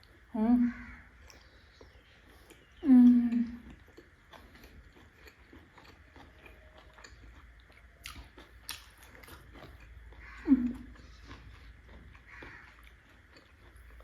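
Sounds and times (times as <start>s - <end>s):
chewing dumplings: 0.0s - 14.0s.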